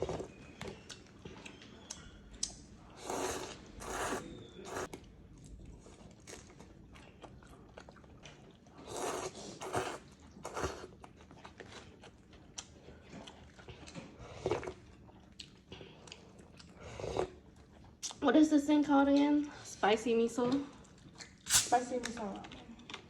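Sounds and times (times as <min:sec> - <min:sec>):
person chewing food: 0:00.0 - 0:18.2, 0:20.7 - 0:21.6, 0:22.5 - 0:23.0.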